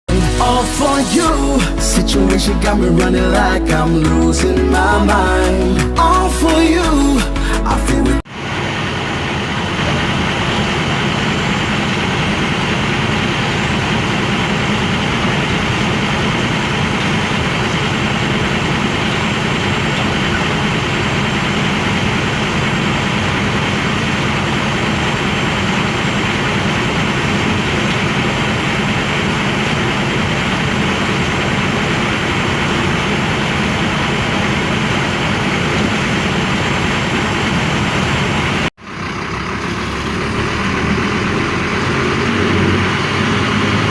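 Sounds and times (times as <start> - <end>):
bus engine running: 0.0 - 43.9
road noise: 0.0 - 43.9.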